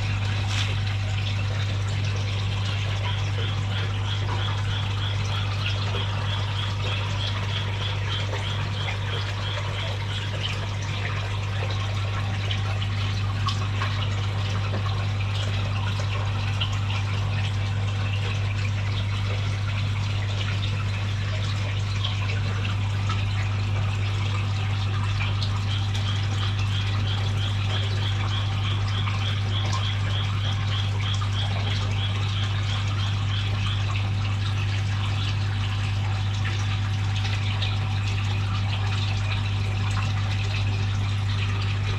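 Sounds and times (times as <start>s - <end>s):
water pump humming: 0.0s - 41.9s
water splashing and trickling: 0.0s - 41.9s.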